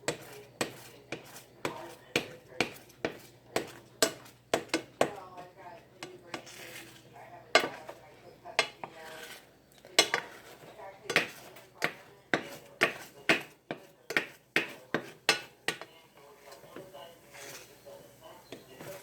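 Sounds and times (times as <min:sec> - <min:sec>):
spoon scraping and clinking pan: 0:00.0 - 0:19.0.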